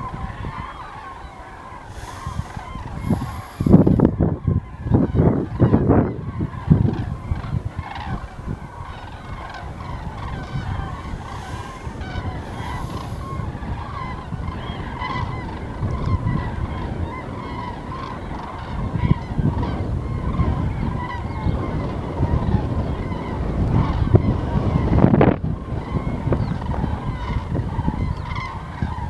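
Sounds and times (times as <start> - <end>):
cranes trumpeting calls: 0.0 - 29.0
wind rumble on microphone: 0.0 - 29.0.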